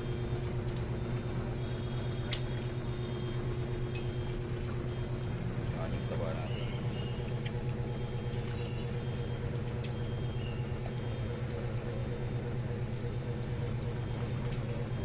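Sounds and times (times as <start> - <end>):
low engine hum with flutter: 0.0 - 15.0.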